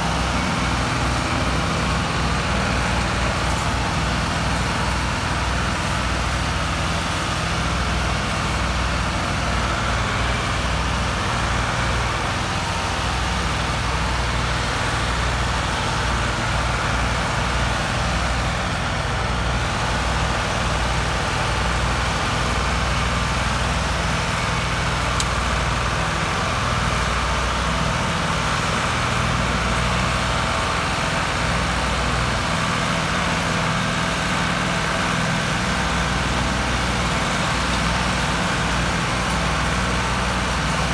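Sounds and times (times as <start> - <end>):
tractor diesel engines under load: 0.0 - 40.9.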